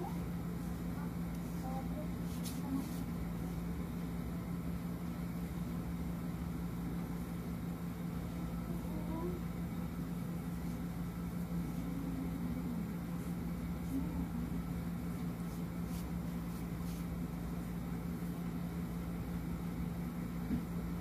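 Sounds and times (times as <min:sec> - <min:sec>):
constant background noise: 0:00.0 - 0:21.0
steady low hum: 0:00.0 - 0:21.0.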